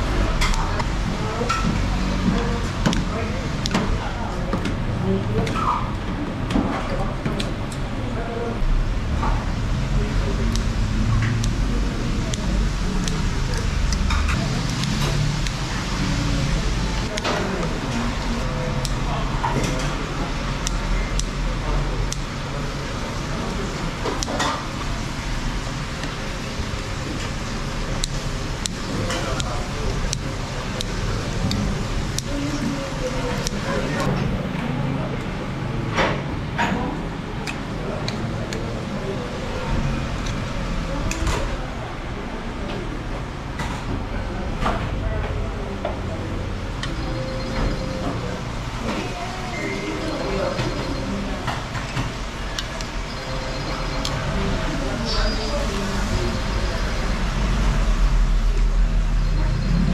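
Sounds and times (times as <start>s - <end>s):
low traffic rumble: 0.0s - 59.9s.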